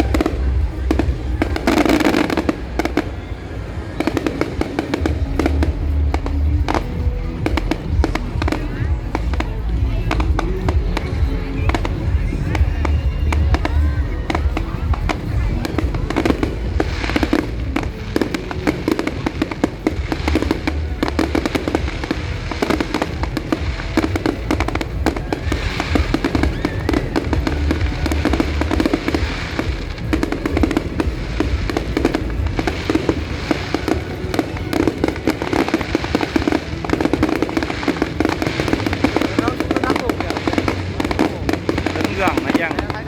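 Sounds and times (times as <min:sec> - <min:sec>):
fireworks bangs and crackles: 0:00.0 - 0:43.0
music playing: 0:00.0 - 0:43.0.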